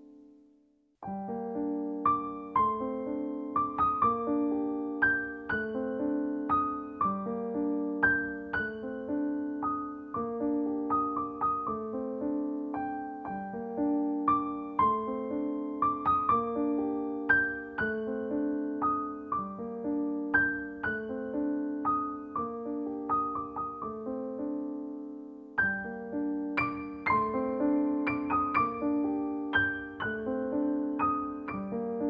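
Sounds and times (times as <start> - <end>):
gentle piano music: 0.0 - 32.0.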